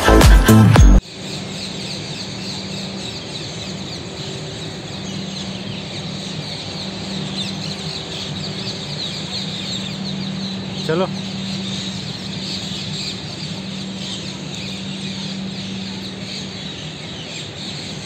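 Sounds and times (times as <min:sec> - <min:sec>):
low hum: 0:02.2 - 0:18.0.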